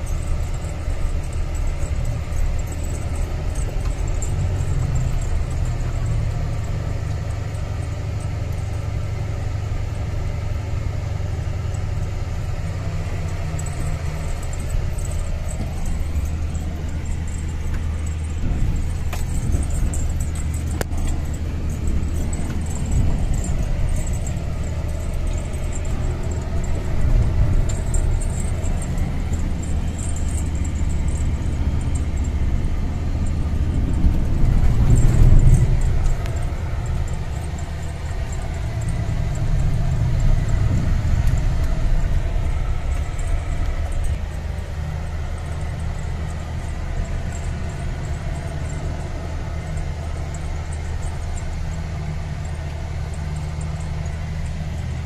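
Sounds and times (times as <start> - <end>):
light rattling: 0.0 - 55.0
road noise on dirt road: 0.0 - 55.0
vehicle engine drone: 0.0 - 55.0.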